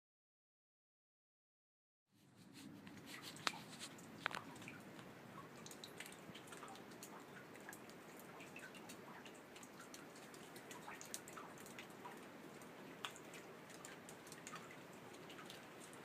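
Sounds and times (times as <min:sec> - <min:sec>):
rain and wind: 0:02.4 - 0:16.0
raindrops dripping: 0:02.4 - 0:16.0.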